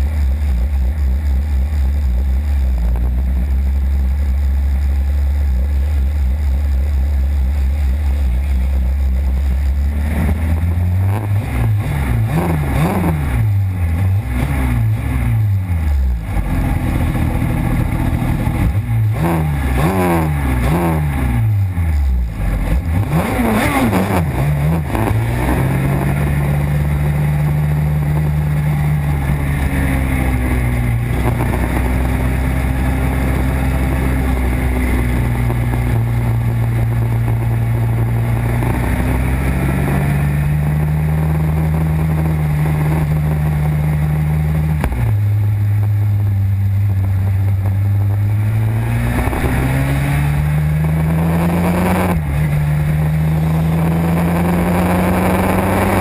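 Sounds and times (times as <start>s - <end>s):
two-stroke engine revving: 8.0s - 45.4s, 47.5s - 56.0s.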